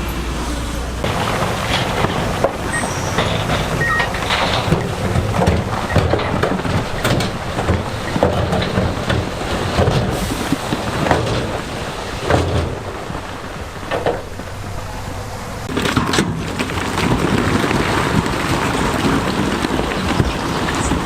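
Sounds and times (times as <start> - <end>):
bulldozer diesel engine under load: 0.0 - 21.0
rocks grinding and clattering: 1.0 - 21.0.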